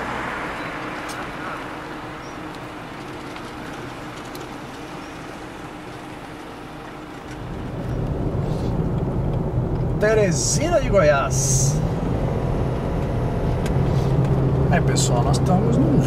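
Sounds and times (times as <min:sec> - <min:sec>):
car rumble from inside cab: 0:00.0 - 0:16.0
road noise hiss and hum: 0:00.0 - 0:16.0.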